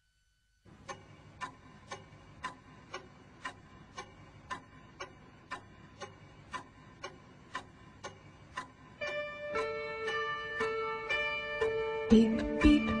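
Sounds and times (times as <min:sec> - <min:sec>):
clock-like ticking: 0:00.7 - 0:13.0.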